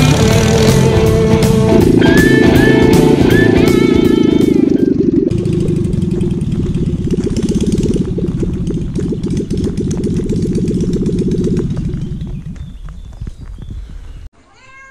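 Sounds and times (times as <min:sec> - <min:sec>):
motorcycle engine riding off: 0:00.0 - 0:14.3.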